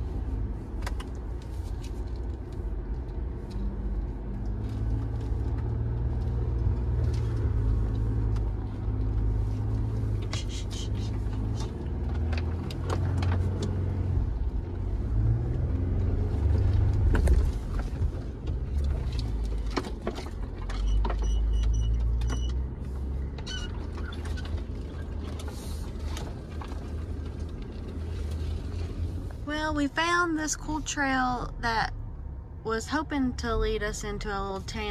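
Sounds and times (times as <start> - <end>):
vehicle engine hum: 0.0 - 34.9.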